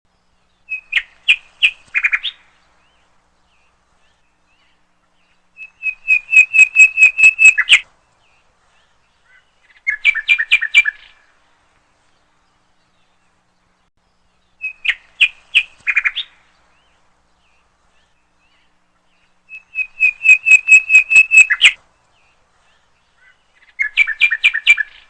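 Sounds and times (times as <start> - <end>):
bird chirping: 0.1 - 25.0.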